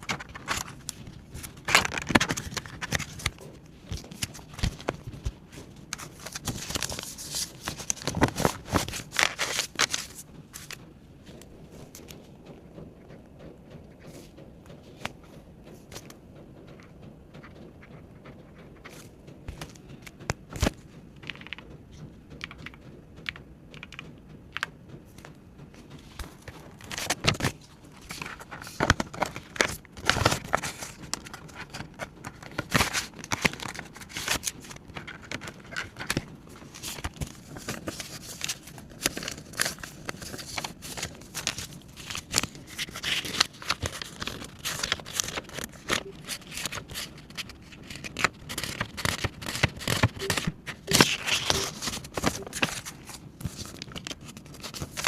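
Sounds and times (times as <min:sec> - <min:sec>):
paper crinkling and rustling: 0:00.0 - 0:13.2, 0:13.8 - 0:21.7, 0:22.4 - 0:55.0.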